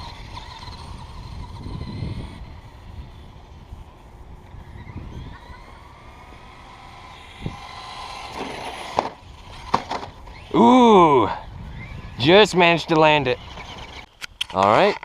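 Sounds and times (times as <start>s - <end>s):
electric motor whining: 0.0s - 14.2s.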